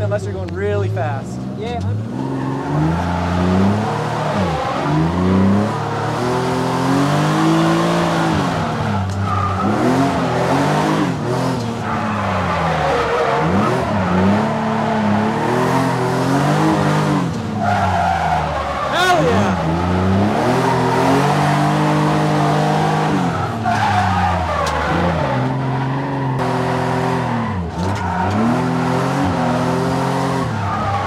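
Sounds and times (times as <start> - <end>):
car engine revving: 0.0 - 31.0
tyre and road noise: 0.0 - 31.0
high tyre squeal: 2.0 - 31.0.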